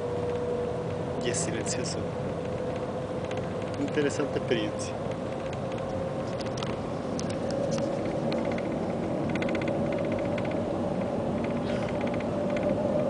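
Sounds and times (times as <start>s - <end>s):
train cabin rushing hum: 0.0s - 13.0s.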